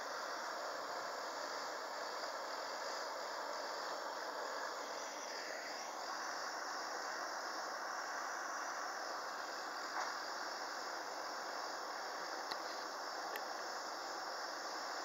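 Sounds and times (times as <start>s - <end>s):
gas burner hissing: 0.0s - 15.0s.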